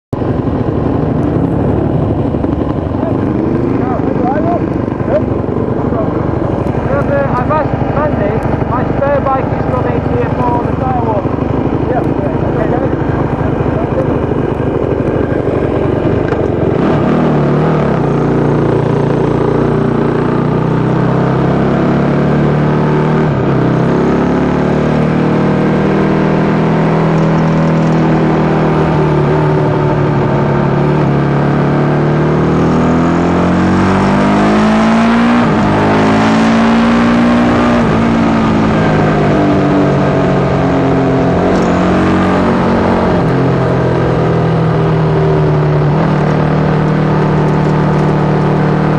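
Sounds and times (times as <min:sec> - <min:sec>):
motorcycle engine running hard: 0:00.1 - 0:48.9.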